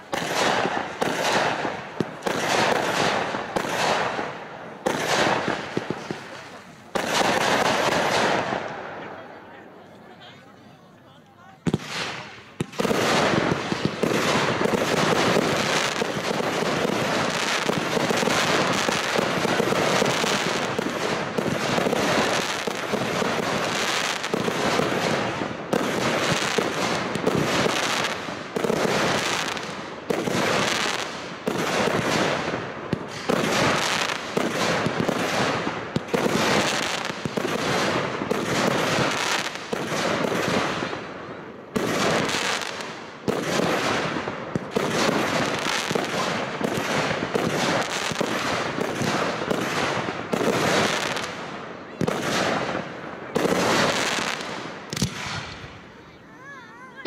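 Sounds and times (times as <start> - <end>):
fireworks bursting: 0.0 - 10.1, 11.5 - 57.0.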